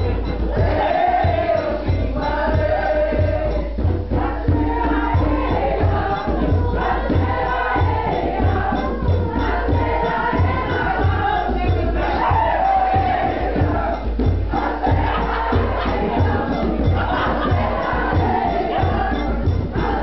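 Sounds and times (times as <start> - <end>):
group singing together: 0.0 - 20.0
low drum beat: 0.0 - 20.0.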